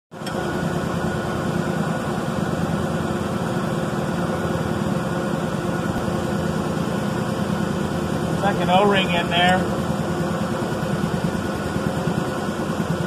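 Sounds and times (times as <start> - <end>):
machinery humming with low flutter: 0.2 - 13.0.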